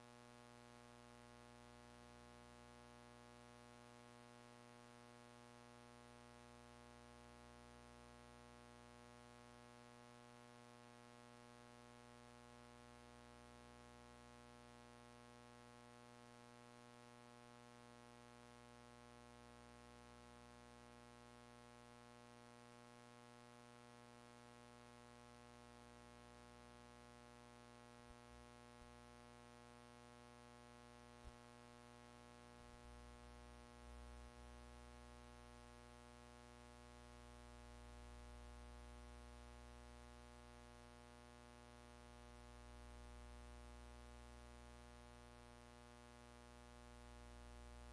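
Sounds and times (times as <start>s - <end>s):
faint electrical hum: 0.0s - 47.9s.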